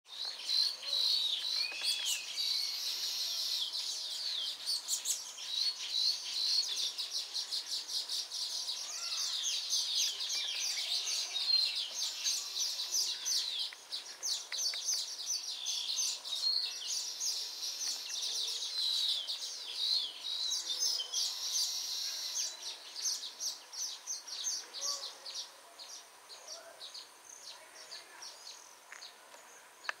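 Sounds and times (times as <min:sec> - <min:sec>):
birds chirping in chorus: 0:00.1 - 0:30.0.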